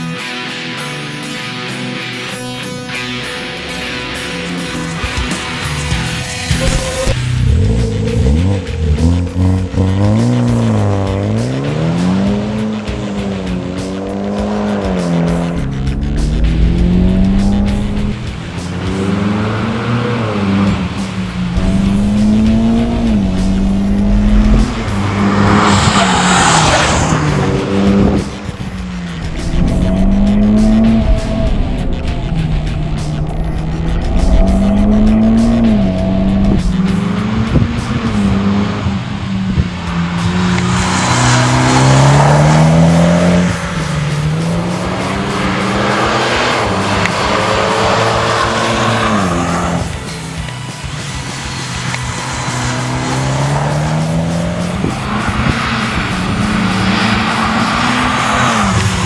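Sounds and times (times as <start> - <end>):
car engine revving: 0.0 - 59.0
rush of noise: 2.2 - 59.0.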